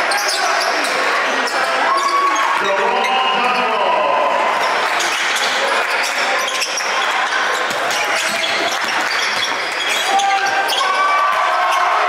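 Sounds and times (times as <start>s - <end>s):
crowd chatter: 0.0s - 12.0s.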